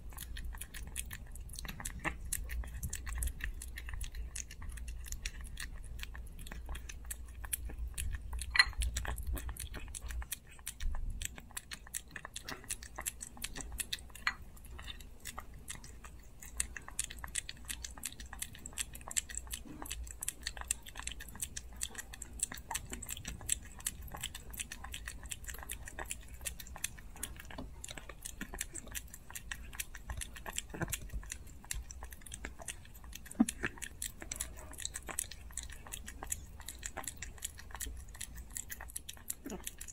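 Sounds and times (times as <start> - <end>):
puppy chewing and licking: 0.0 - 39.9.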